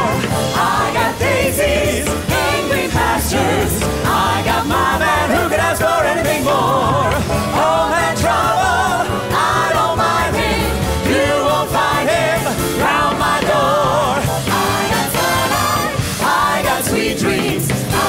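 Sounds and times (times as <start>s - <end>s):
group of singers singing: 0.0s - 18.0s
swing big band playing: 0.0s - 18.0s.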